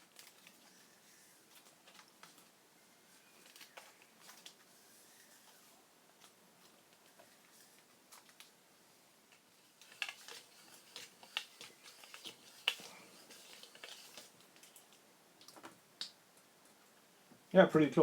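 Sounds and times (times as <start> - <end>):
tape crackling and clicking: 0.0 - 8.6, 9.3 - 17.0.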